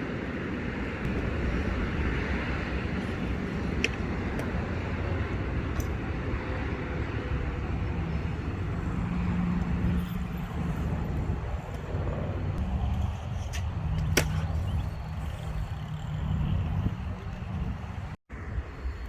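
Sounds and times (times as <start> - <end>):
bike tyres rolling on pavement: 0.0 - 18.2.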